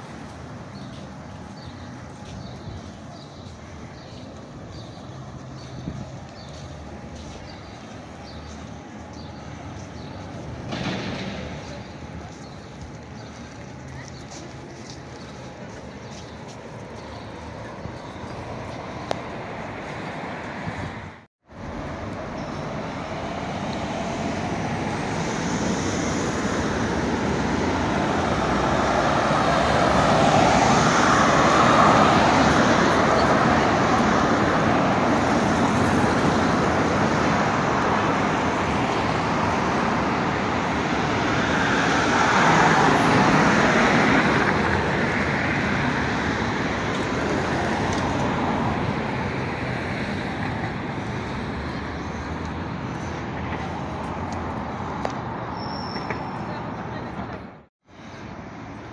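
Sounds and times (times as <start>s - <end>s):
cars driving past: 0.0s - 58.9s.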